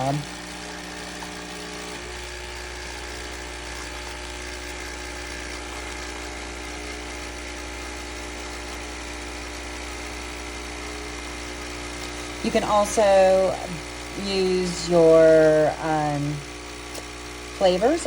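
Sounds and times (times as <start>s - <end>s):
coffee machine humming and whirring: 0.0s - 18.0s.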